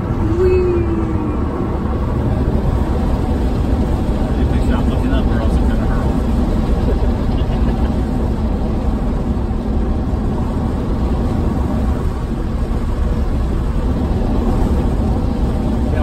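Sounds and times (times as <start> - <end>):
road and tyre rumble in car cabin: 0.0 - 16.0.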